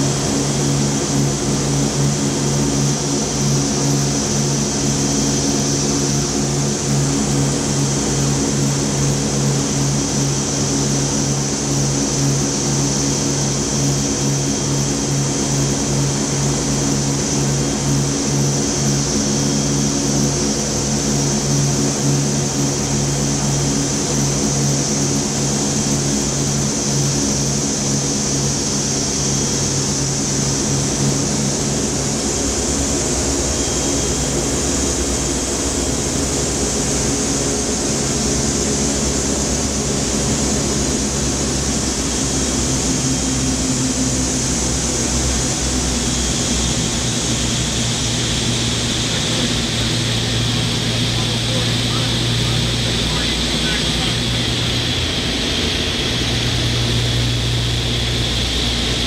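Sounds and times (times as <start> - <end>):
propeller aircraft engines droning: 0.0 - 59.0.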